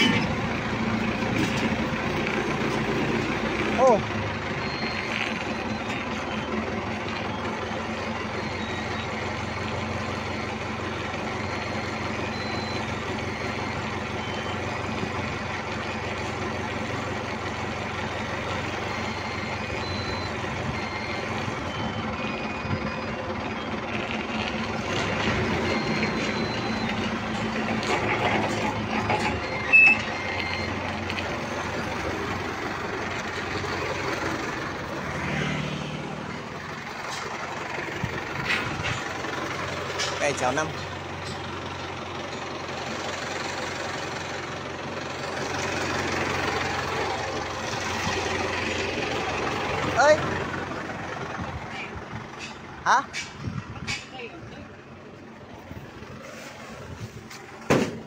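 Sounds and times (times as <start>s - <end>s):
forklift engine running: 0.0s - 58.0s.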